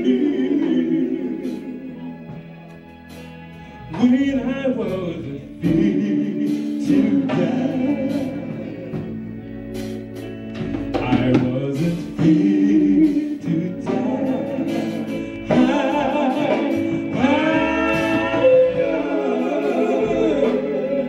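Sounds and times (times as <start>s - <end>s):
lead male voice singing: 0.0s - 2.4s, 3.9s - 9.2s, 10.9s - 21.0s
male vocal harmonies: 0.0s - 2.8s, 3.6s - 9.7s, 10.8s - 21.0s
electric guitar: 0.0s - 21.0s.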